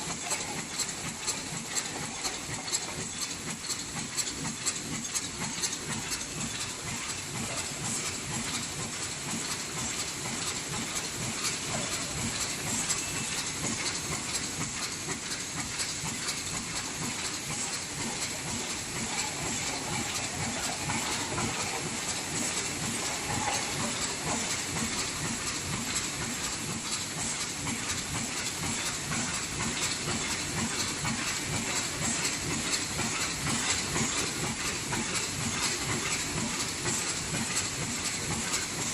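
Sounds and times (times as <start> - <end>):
machine clicking over steady hiss: 0.0 - 38.9.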